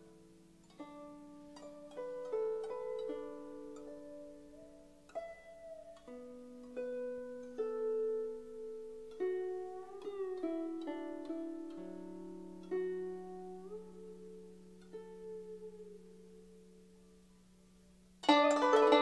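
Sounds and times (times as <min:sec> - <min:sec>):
zither plucked melody: 0:00.0 - 0:19.0.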